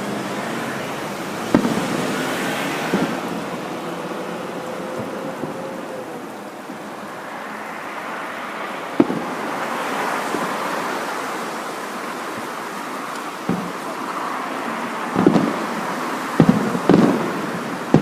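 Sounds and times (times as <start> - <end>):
fireworks sparks hissing: 0.0 - 18.0.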